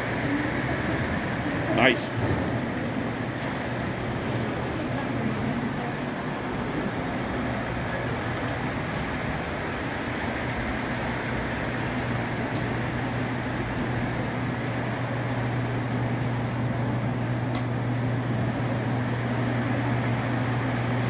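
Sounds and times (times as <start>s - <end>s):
low mechanical hum and whir: 0.0s - 21.0s.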